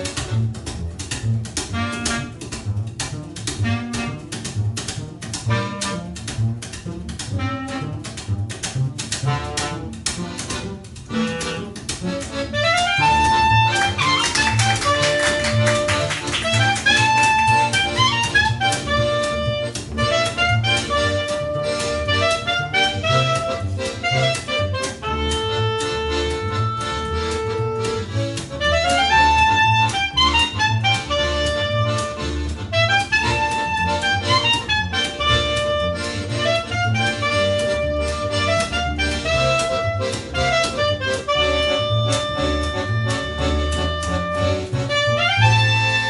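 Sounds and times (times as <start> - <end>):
accordion: 0.0 - 46.0
double bass line: 0.0 - 46.0.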